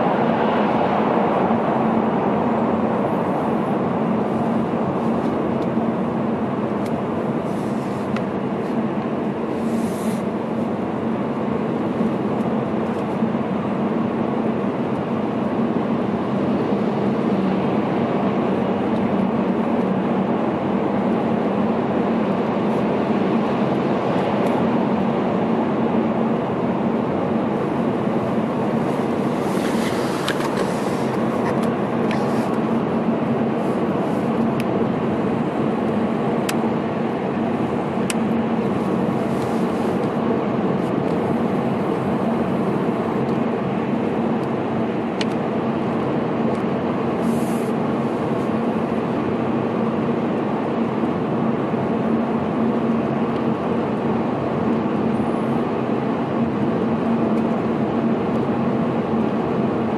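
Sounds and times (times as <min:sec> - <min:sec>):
car cabin road and engine noise: 0:00.0 - 0:59.9.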